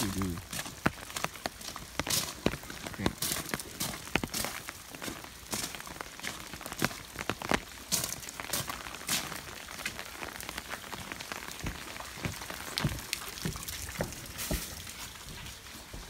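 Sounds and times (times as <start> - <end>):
footsteps on gravel: 0.0 - 16.0
footsteps on wooden boards: 0.0 - 16.0.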